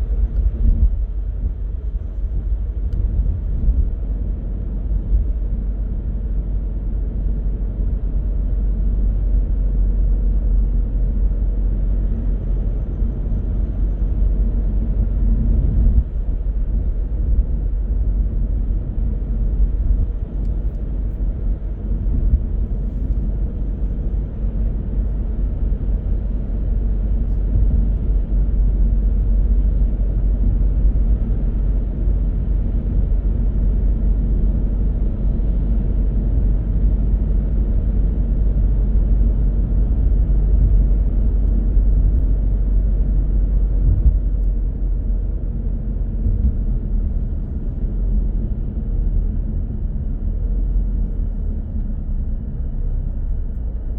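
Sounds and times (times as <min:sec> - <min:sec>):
car driving rumble: 0:00.0 - 0:53.9.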